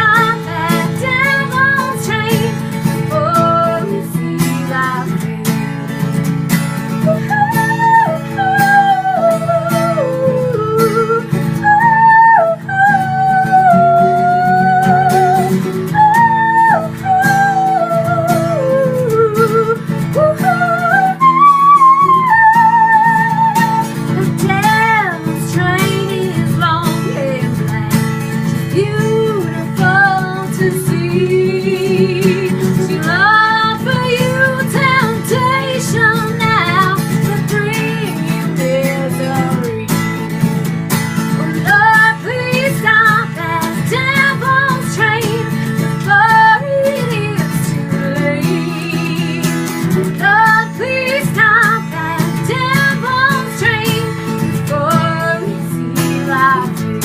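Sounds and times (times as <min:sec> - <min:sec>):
woman singing with vibrato: 0:00.0 - 0:06.0, 0:07.0 - 0:40.4, 0:41.3 - 0:57.0
strummed acoustic guitar: 0:00.0 - 0:57.0.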